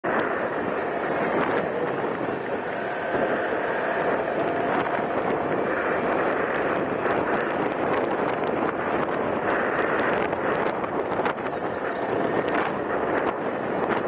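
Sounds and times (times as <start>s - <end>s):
scooter engine and road noise: 0.0s - 14.0s
wind rush on microphone: 0.0s - 14.0s.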